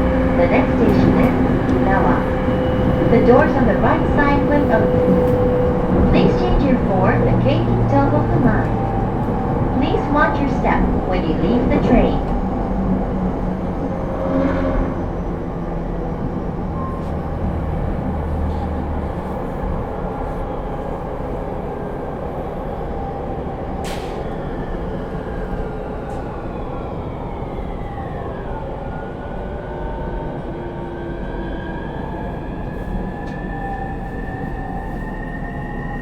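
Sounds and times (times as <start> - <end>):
train wheel and track rumble: 0.0 - 36.0.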